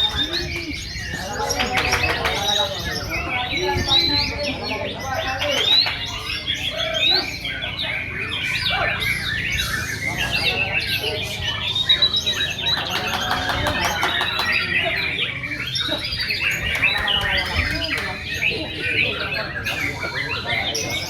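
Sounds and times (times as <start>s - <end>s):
low background murmur: 0.0s - 21.0s
songbirds singing: 0.0s - 21.0s.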